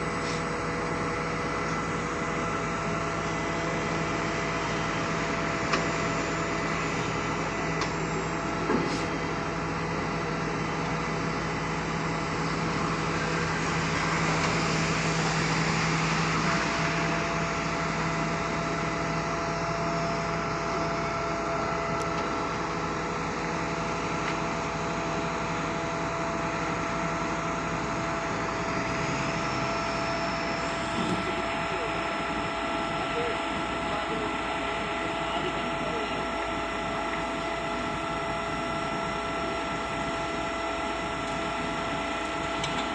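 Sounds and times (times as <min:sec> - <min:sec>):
pump truck machinery humming: 0:00.0 - 0:42.9.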